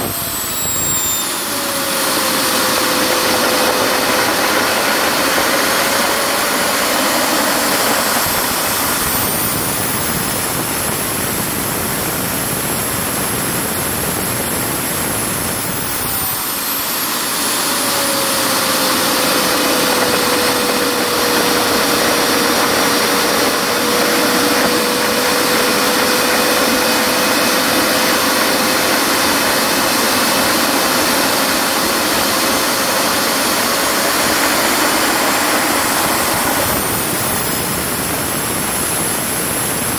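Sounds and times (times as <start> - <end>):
turbofan engine jet rush and whine: 0.0 - 39.9.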